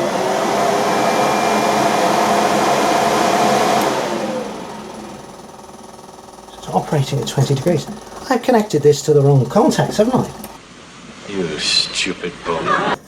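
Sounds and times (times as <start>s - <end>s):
electric radiator fan running: 0.0s - 10.6s.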